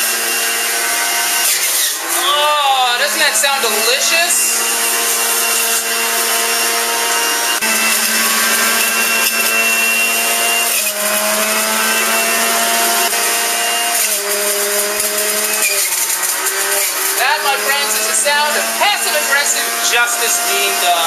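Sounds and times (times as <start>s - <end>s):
juicer motor whine: 0.0s - 21.0s.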